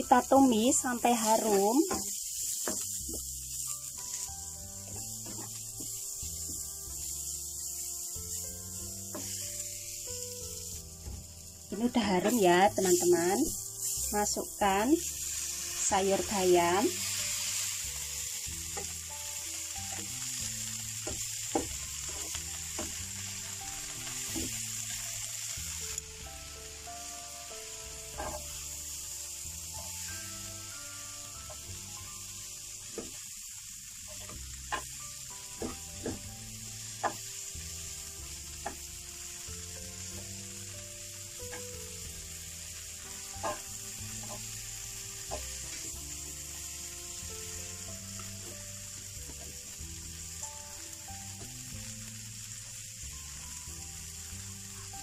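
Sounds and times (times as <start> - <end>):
spinach sizzling in a frying pan: 0.0 - 55.0.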